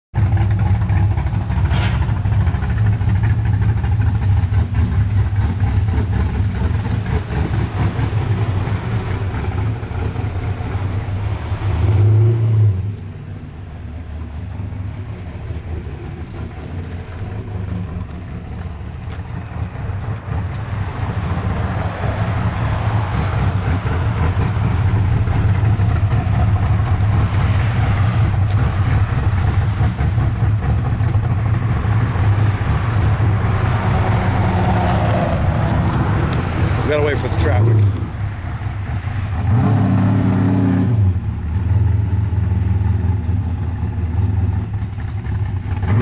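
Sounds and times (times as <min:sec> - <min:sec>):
car engine running and revving: 0:00.1 - 0:46.0.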